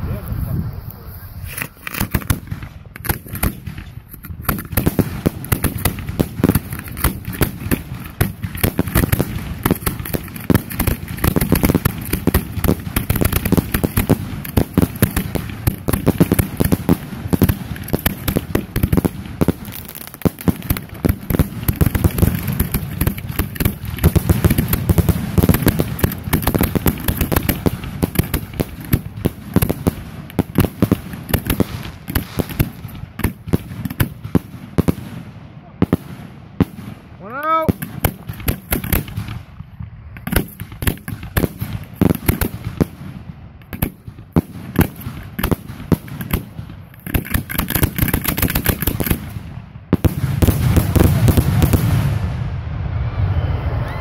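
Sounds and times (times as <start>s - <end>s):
fireworks crackling: 0.0s - 52.7s
fireworks bursting: 0.0s - 54.0s.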